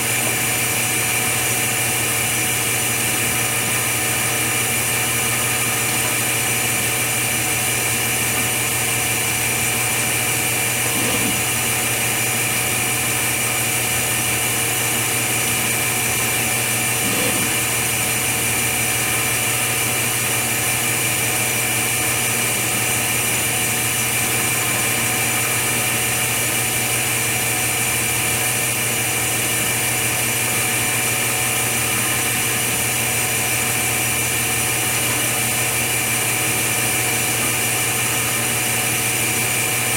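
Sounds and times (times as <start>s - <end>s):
machine hum with whining tones: 0.0s - 39.9s.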